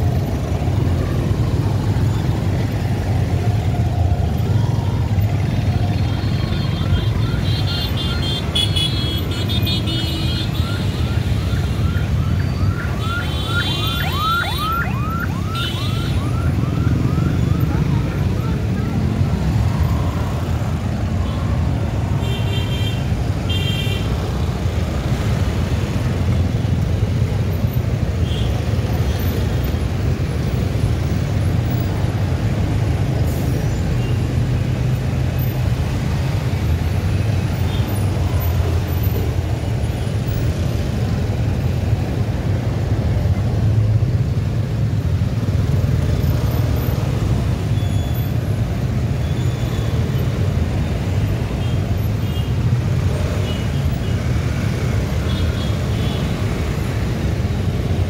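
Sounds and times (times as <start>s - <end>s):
motorcycle road rumble: 0.0s - 58.0s.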